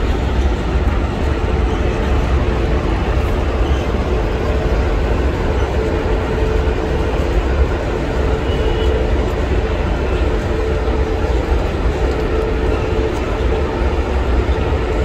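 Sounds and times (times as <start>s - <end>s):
train wagons rumbling on rails: 0.0s - 15.0s.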